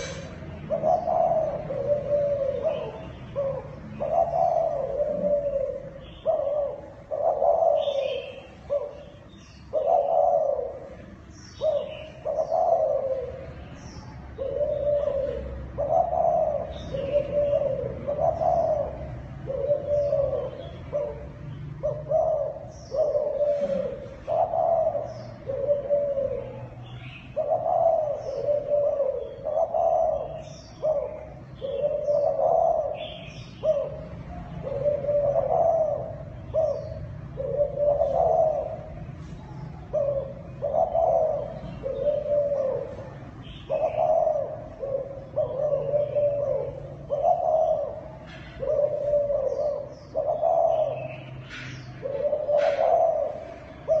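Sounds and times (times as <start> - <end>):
dove cooing: 0.0 - 54.0
small birds chirping: 0.0 - 54.0.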